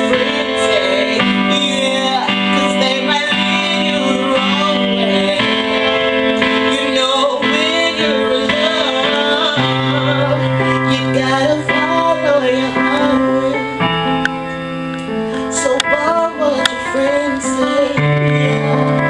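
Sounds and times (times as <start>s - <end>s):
keyboard chords: 0.0s - 19.0s.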